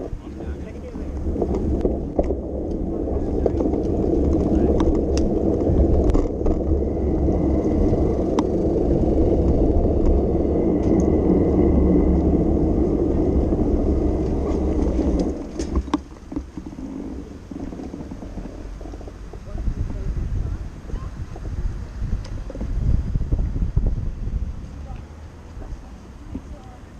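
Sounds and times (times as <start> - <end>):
wind and road rumble: 0.0 - 26.9.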